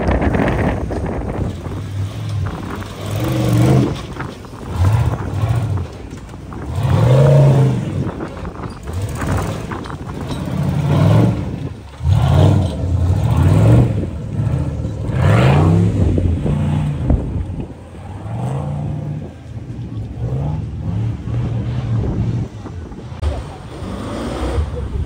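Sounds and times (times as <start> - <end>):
buggy engine revving: 0.0 - 25.0.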